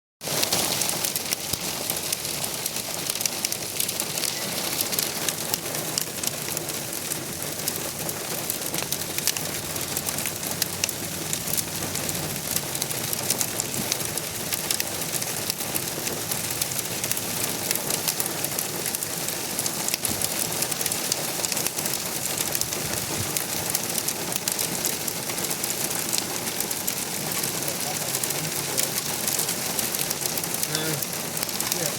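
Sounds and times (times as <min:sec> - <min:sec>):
hail and rain pelting down: 0:00.2 - 0:31.9.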